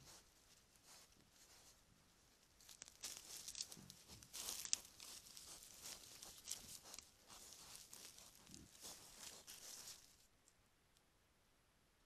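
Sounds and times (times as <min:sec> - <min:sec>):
rustling of leaf litter: 0:00.0 - 0:10.3.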